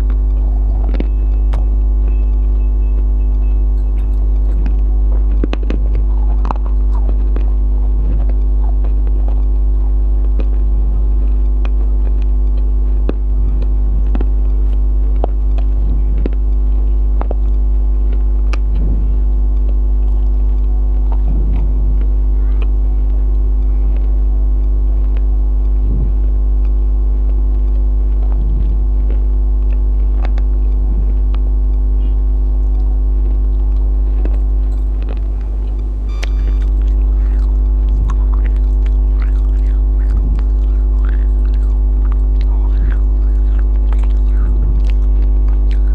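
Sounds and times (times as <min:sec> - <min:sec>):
loud electrical hum: 0:00.0 - 0:45.9
person chewing and smacking: 0:00.0 - 0:45.9.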